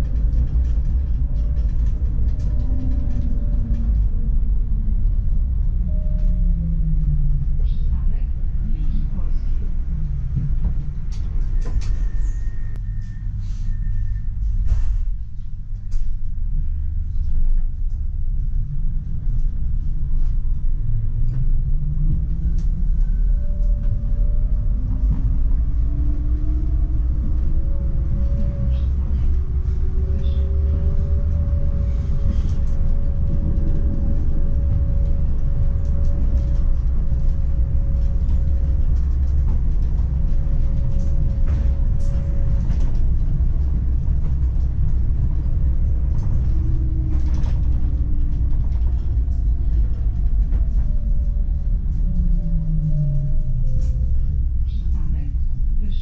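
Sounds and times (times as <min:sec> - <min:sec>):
tram rumbling on rails: 0:00.0 - 0:56.0.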